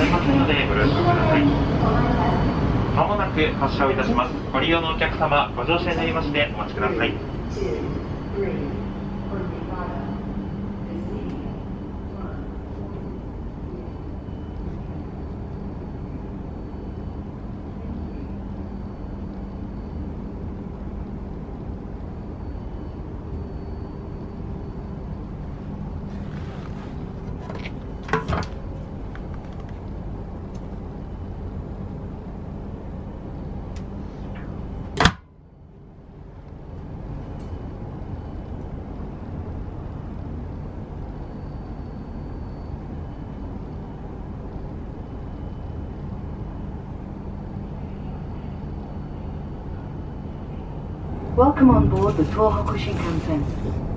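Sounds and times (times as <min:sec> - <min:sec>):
train car interior hum: 0:00.0 - 0:53.9.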